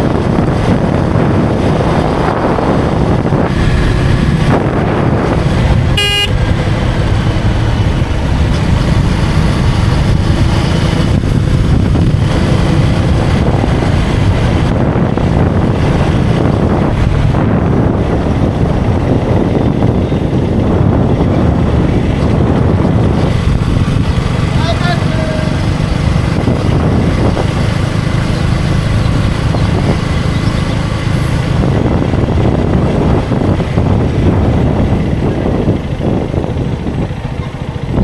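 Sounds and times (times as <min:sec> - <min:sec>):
motorcycle engine running: 0:00.0 - 0:38.0
wind rush on microphone: 0:00.0 - 0:38.0.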